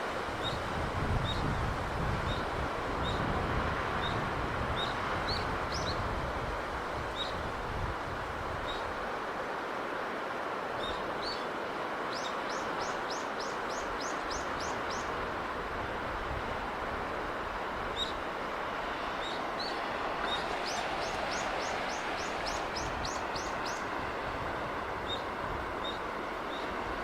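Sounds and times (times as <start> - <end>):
sea breeze hiss: 0.0 - 27.0.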